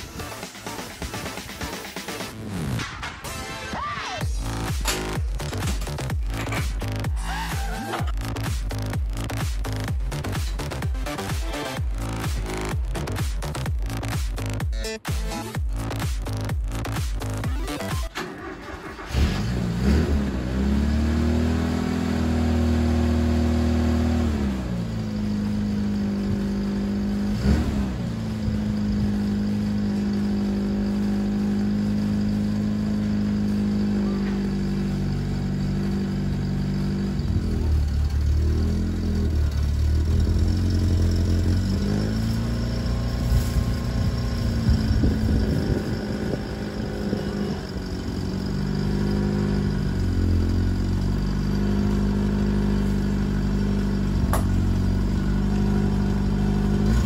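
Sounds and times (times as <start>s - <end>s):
truck engine revving: 4.2s - 14.6s, 15.8s - 57.0s.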